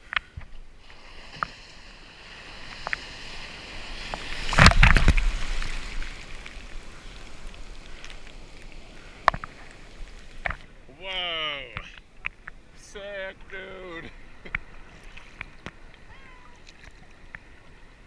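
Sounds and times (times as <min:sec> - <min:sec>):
ocean water splashing: 0:00.0 - 0:18.0.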